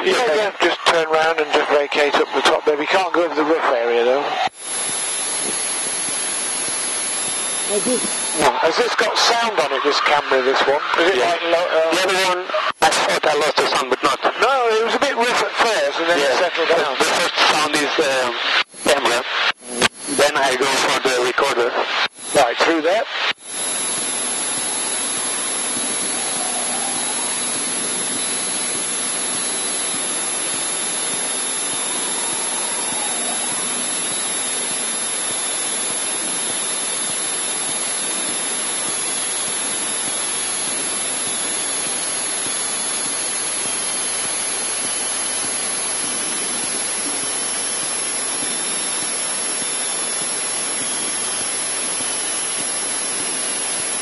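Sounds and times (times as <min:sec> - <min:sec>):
faint high whine: 0:00.0 - 0:54.0.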